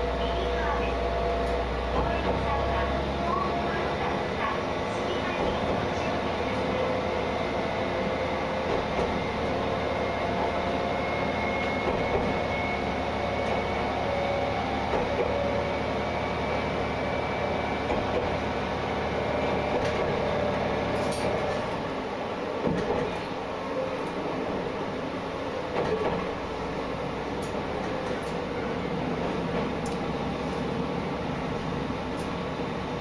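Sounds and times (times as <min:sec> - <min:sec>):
diesel railcar engine drone: 0:00.0 - 0:33.0
wheel-on-rail rumble: 0:00.0 - 0:33.0.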